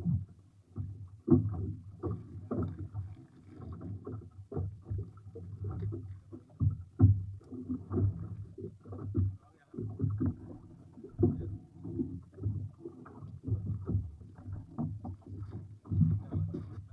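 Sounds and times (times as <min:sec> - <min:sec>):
water slapping against boat hull: 0:00.0 - 0:16.9.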